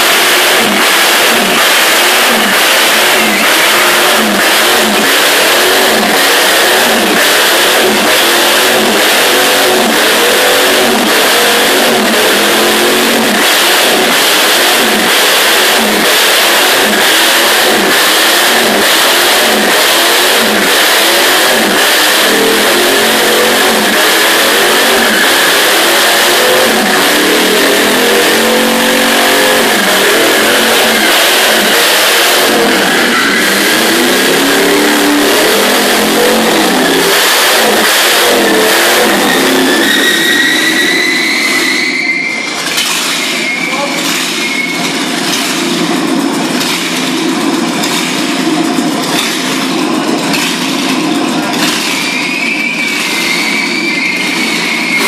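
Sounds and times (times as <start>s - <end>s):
tyres squealing on concrete: 0.0s - 47.4s, 48.4s - 55.0s
engine revving hard: 0.0s - 55.0s.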